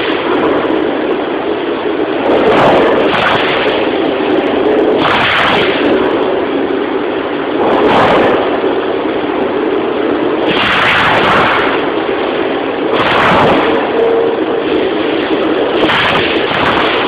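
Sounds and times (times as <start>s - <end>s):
hissing surge: 0.0s - 17.0s.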